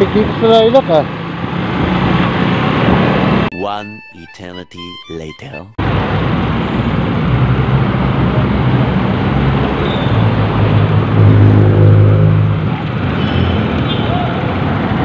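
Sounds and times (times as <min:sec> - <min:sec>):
wind and road noise: 0:00.0 - 0:03.5, 0:05.8 - 0:15.0.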